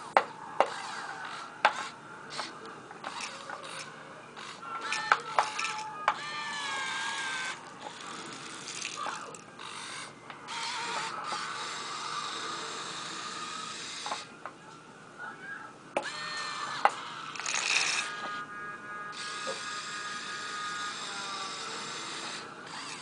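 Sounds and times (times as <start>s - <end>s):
electric motors whining: 0.0s - 14.5s, 15.5s - 23.0s.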